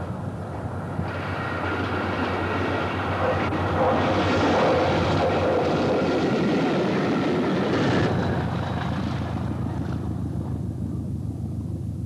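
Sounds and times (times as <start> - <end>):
diesel train passing: 0.0 - 10.7
low engine drone: 0.0 - 12.0.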